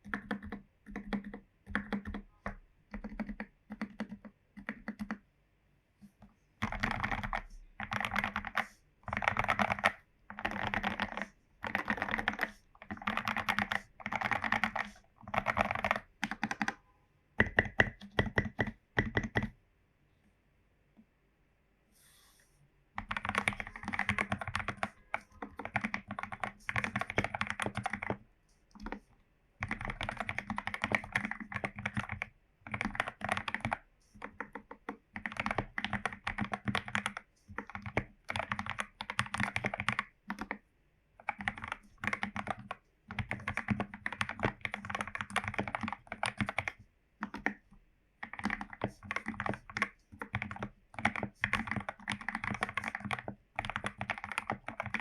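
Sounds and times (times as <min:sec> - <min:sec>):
typing on mechanical keyboard: 0:00.0 - 0:05.2, 0:06.6 - 0:16.8, 0:17.4 - 0:19.6, 0:23.0 - 0:40.6, 0:41.2 - 0:55.0.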